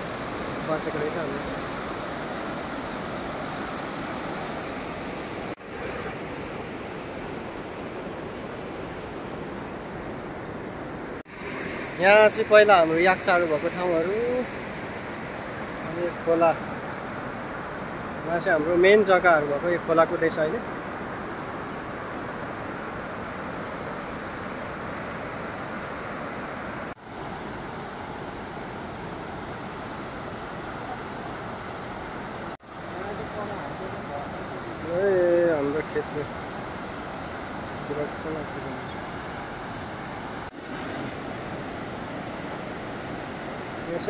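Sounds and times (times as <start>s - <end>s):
river rushing: 0.0s - 44.0s.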